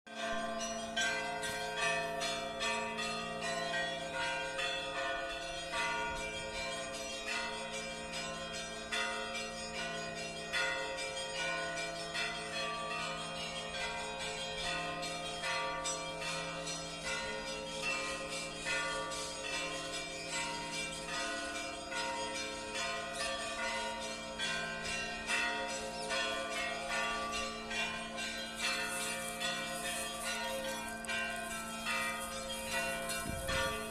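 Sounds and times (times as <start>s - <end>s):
small church bells ringing: 0.1s - 33.9s
large bells humming: 0.2s - 33.9s.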